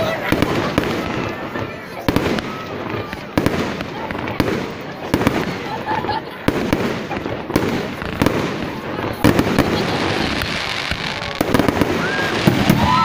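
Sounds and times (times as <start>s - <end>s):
continuous noisy background: 0.0s - 13.0s.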